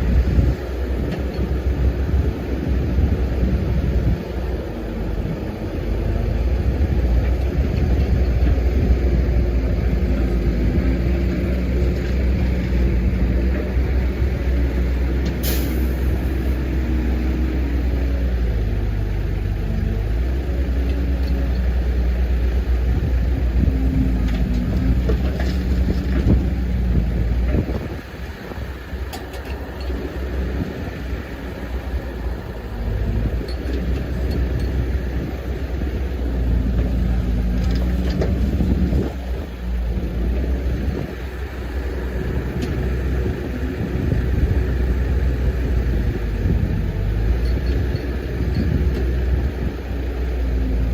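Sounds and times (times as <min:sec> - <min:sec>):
excavator engine and hydraulics: 0:00.0 - 0:50.9.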